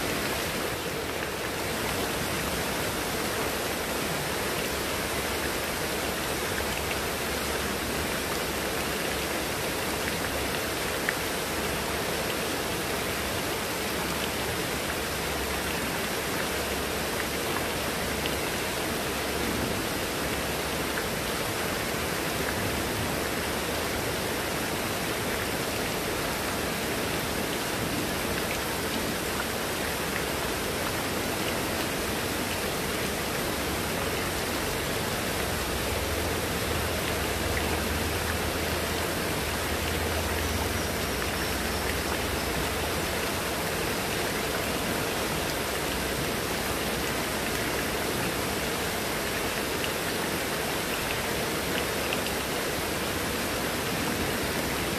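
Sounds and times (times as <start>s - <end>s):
heavy rain on foliage: 0.0s - 54.9s.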